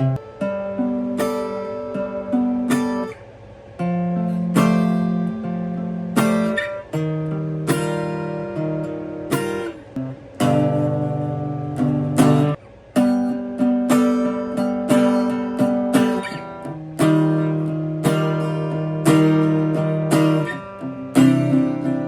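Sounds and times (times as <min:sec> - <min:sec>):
acoustic guitar slow chords: 0:00.0 - 0:22.0.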